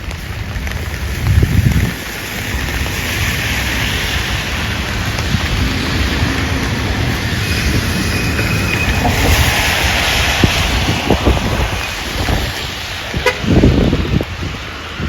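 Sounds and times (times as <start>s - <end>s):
falling rain: 0.0s - 15.0s
tyres spraying on wet pavement: 0.0s - 15.0s.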